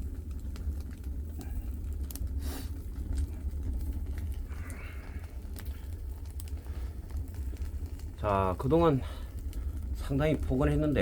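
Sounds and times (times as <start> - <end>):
wood fire crackling in stove: 0.0 - 11.0.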